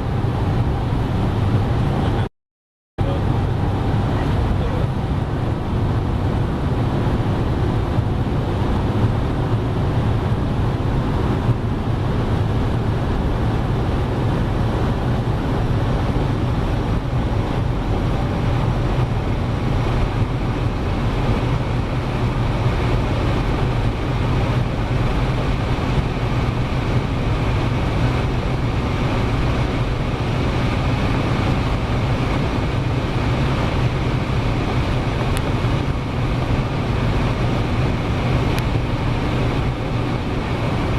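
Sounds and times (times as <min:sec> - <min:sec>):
car engine hum: 0:00.0 - 0:02.3, 0:03.0 - 0:40.9
tyre and wind noise: 0:03.4 - 0:40.9.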